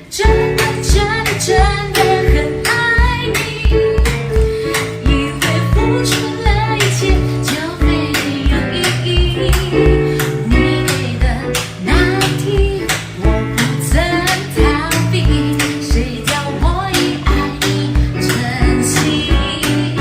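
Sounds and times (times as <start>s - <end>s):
guitar: 0.0s - 20.0s
woman singing: 0.0s - 20.0s.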